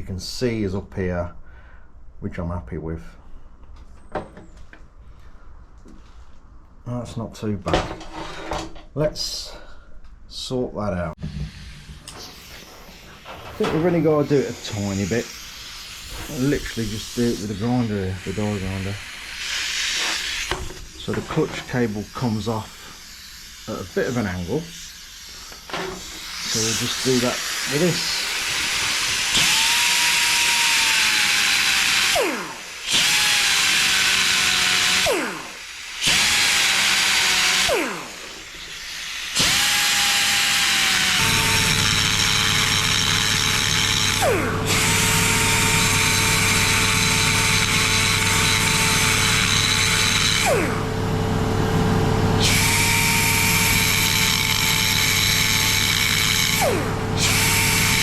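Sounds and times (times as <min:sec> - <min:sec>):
die grinder whining: 0:11.3 - 0:58.0.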